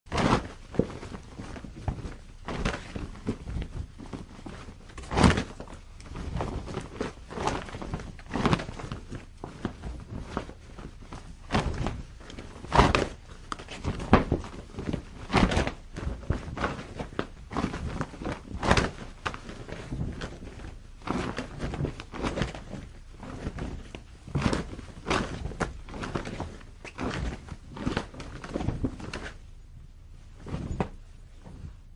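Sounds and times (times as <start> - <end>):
cloth flapping in wind: 0.1 - 31.9.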